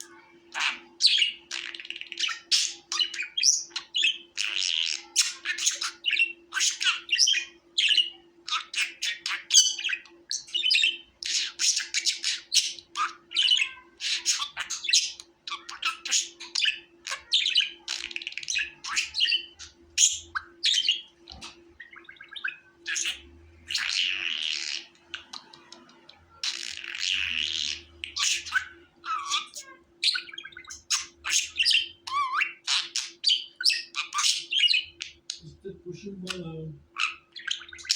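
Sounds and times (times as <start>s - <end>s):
budgerigars chattering: 0.5s - 37.9s.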